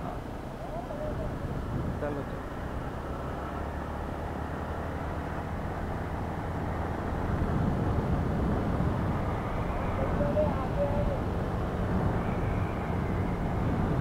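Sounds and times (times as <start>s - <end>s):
wind rushing over microphone: 0.0s - 14.0s
motorcycle engine cruising: 0.6s - 14.0s.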